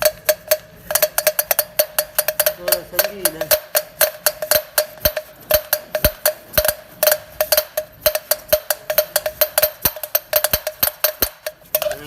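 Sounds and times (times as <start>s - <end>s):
metal-on-metal tapping: 0.0s - 12.0s.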